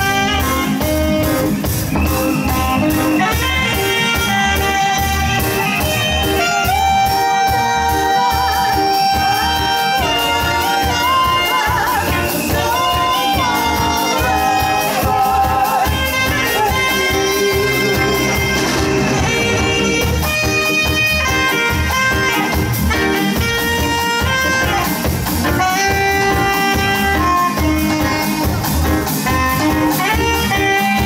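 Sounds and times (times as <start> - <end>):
live band with kick drum: 0.0 - 31.0
saxophone melody: 0.0 - 31.0.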